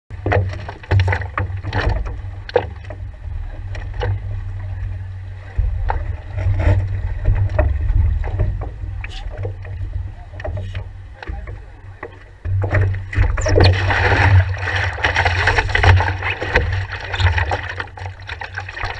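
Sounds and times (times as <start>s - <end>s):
water splashing: 0.2s - 18.9s
low rumble: 1.5s - 18.9s.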